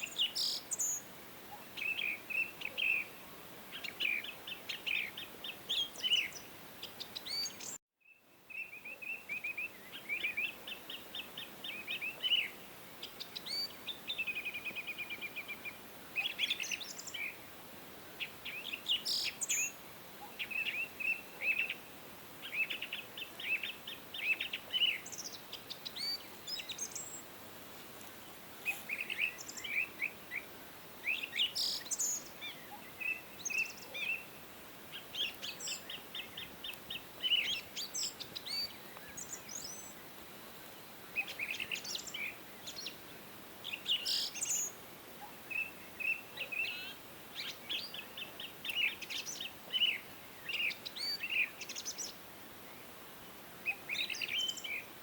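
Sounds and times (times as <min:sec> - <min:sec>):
songbirds chirping and trilling: 0:00.0 - 0:27.4, 0:28.0 - 0:55.0
faint steady hiss: 0:00.0 - 0:55.0.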